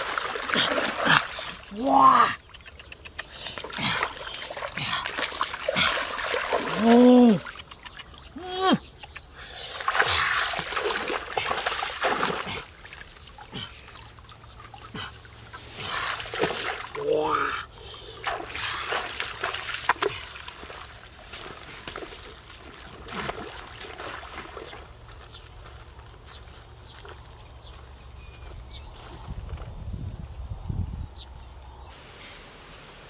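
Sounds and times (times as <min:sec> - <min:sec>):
muddy water splashing: 0:00.0 - 0:29.7.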